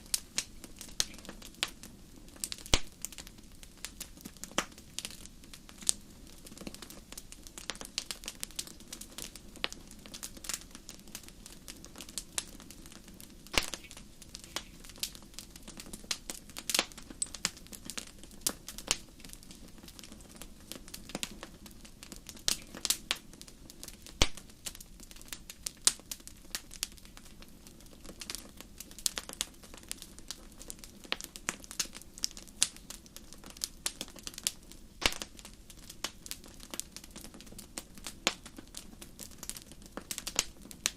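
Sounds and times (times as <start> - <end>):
campfire crackling and popping: 0.0 - 40.9
low rush of fire: 0.0 - 40.9.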